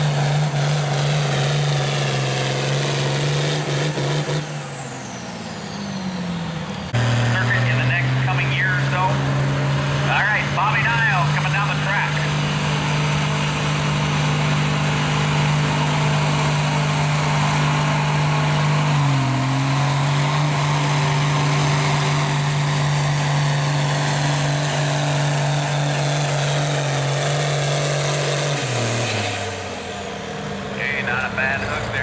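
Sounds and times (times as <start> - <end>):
tractor diesel engine at full throttle: 0.0 - 32.0.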